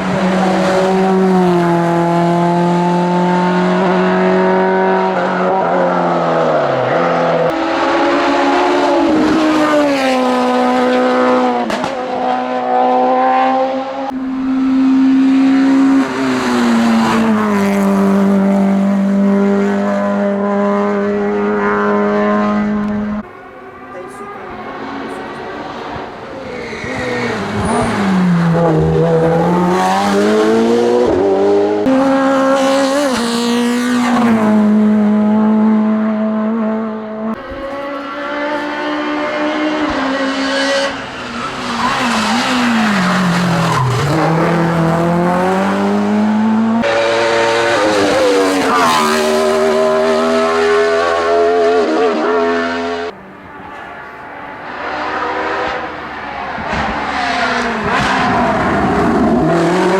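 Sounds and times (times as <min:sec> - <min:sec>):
racing car engines at full throttle: 0:00.0 - 0:59.9.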